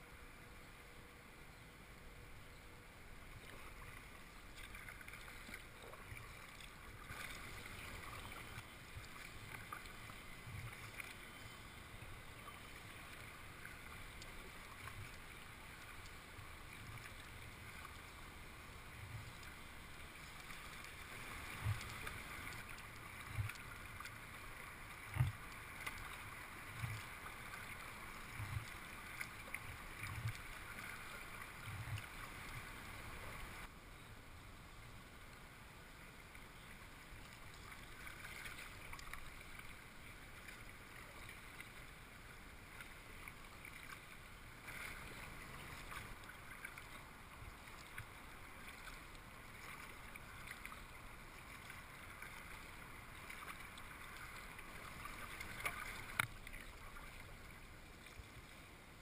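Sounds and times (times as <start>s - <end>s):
paddle strokes in water: 3.2s - 33.7s, 36.6s - 59.0s.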